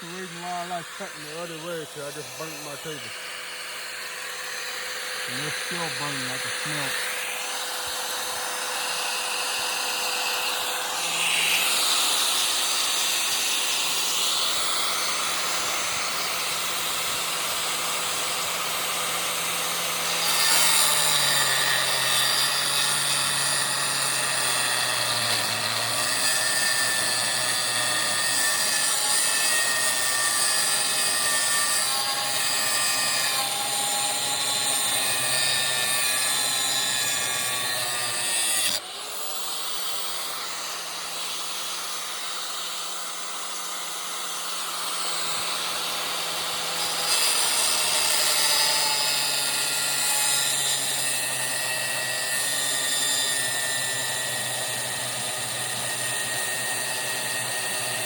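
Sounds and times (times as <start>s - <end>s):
angle grinder cutting metal: 0.0s - 58.0s.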